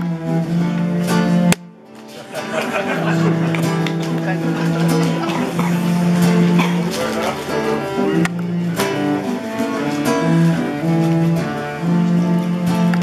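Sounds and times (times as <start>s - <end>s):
acoustic guitar plucked and strummed: 0.0s - 13.0s
bowed string melody: 0.0s - 13.0s.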